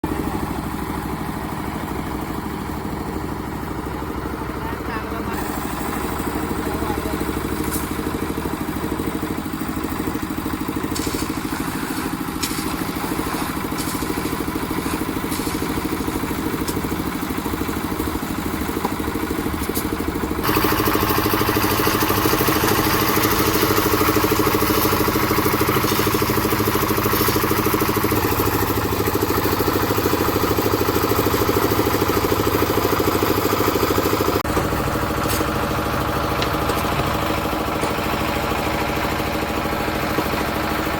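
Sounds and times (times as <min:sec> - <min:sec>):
concrete mixer engine running: 0:00.0 - 0:40.9.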